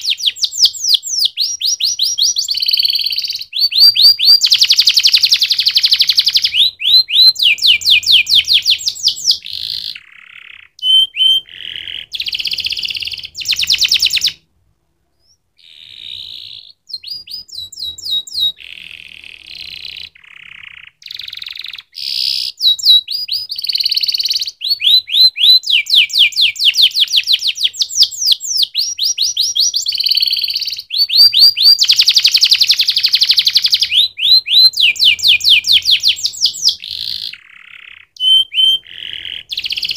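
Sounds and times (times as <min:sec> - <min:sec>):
canary singing trills: 0:00.0 - 0:14.5, 0:15.1 - 0:39.9.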